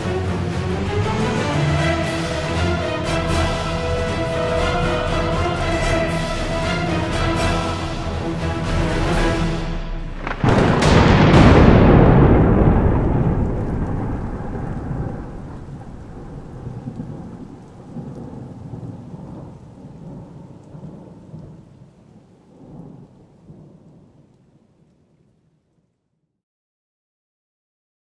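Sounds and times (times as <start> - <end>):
thunder rumbling: 0.0 - 25.6.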